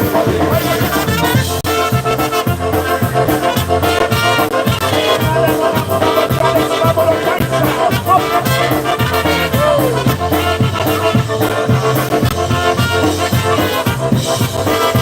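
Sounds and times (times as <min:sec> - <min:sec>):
polka band playing: 0:00.0 - 0:15.0.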